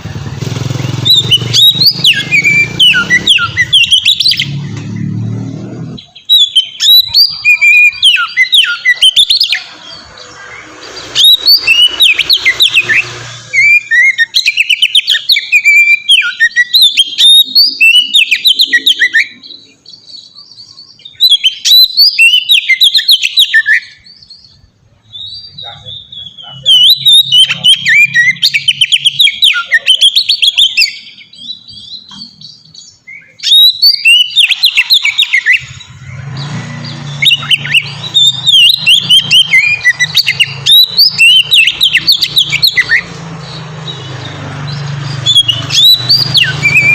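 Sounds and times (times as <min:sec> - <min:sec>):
bird singing whistles and trills: 0:00.0 - 0:46.9.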